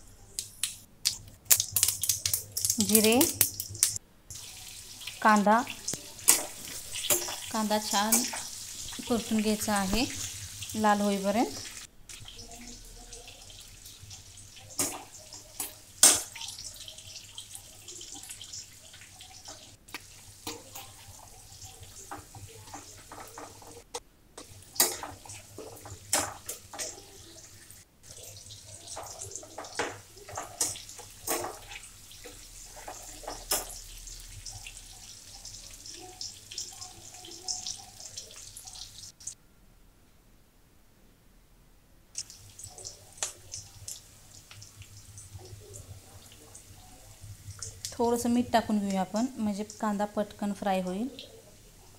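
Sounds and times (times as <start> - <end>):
onions sizzling in oil: 1.5 - 39.4, 42.2 - 51.9.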